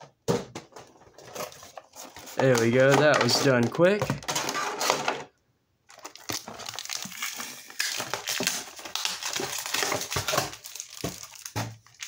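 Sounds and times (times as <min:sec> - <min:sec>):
plastic packaging crackling: 0:01.1 - 0:05.1, 0:05.9 - 0:12.0.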